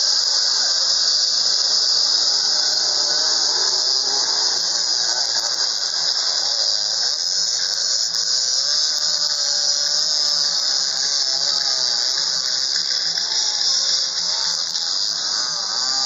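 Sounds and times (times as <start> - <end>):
loud high-pitched hiss: 0.0 - 16.0.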